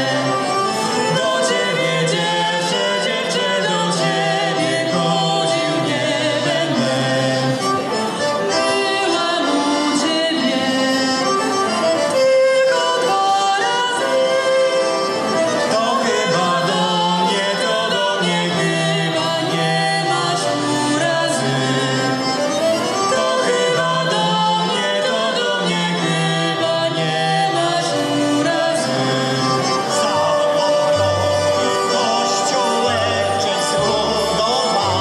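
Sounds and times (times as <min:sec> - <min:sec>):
group singing folk song: 0:00.0 - 0:35.0
instrumental accompaniment: 0:00.0 - 0:35.0.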